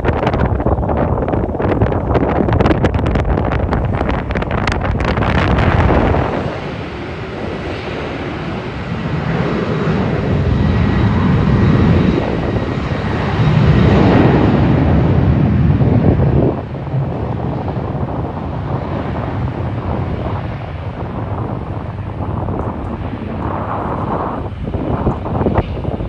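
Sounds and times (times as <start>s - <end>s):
high engine whine: 0.0s - 26.0s
jet airliner engines rumbling: 0.0s - 26.0s
wind buffeting microphone: 0.0s - 26.0s.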